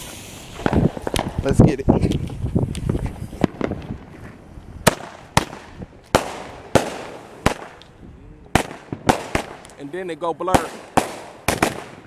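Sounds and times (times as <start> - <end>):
firework bangs with crackle: 0.0 - 12.0.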